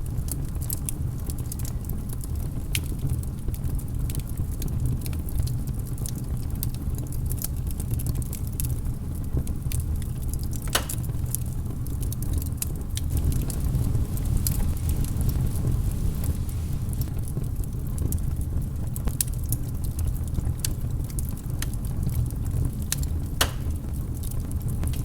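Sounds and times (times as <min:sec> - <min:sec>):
fire crackles and pops: 0:00.0 - 0:25.0
low rumble of flames: 0:00.0 - 0:25.0.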